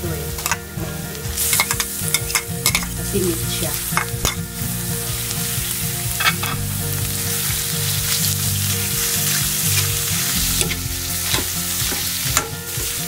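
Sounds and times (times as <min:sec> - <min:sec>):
meat sizzling in oil: 0:00.0 - 0:13.0
metal spatula scraping pan: 0:01.4 - 0:12.9.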